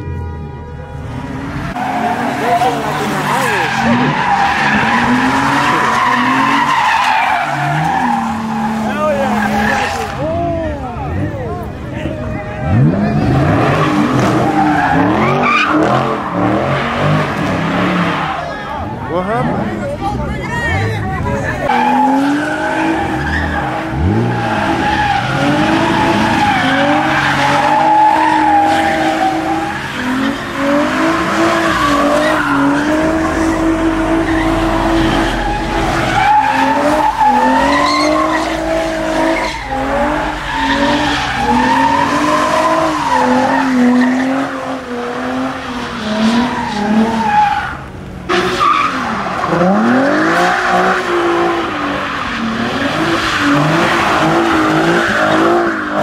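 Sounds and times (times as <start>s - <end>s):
car engine revving: 1.0s - 56.0s
tyres squealing: 1.6s - 10.5s, 12.1s - 19.0s, 20.8s - 56.0s.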